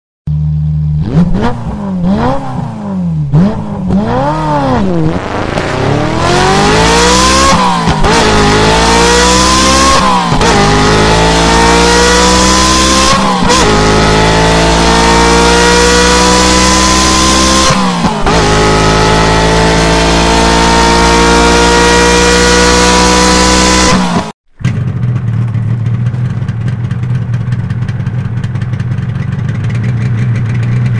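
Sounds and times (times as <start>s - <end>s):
motorcycle engine revving: 0.3s - 30.9s
motorcycle accelerating through gears: 0.9s - 30.9s.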